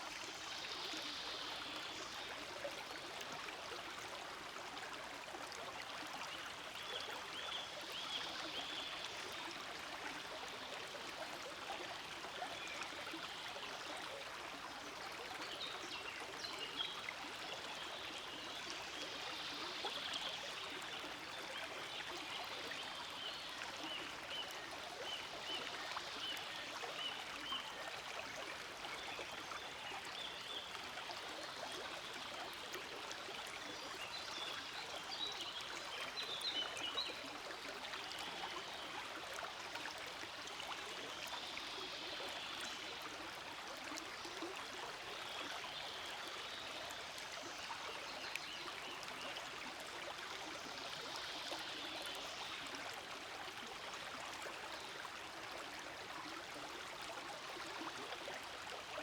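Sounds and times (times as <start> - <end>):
stream flowing and babbling: 0.0 - 59.0.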